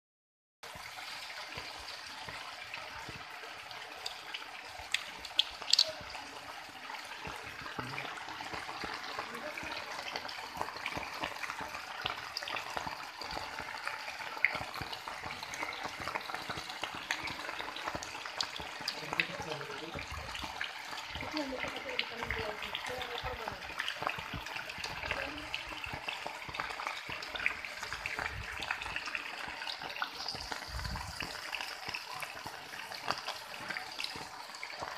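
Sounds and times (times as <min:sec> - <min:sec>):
rain falling on floodwater: 0:00.6 - 0:34.9.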